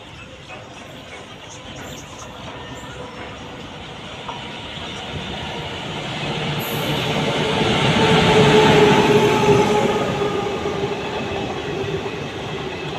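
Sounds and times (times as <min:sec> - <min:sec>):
train wheels on rails: 0:00.0 - 0:12.9.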